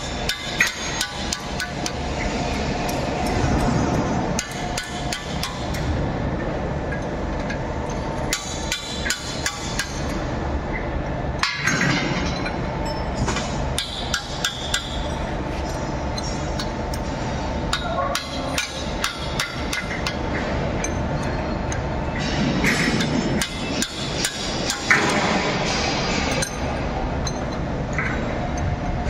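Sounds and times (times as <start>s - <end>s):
steady workshop hum: 0.0s - 29.0s.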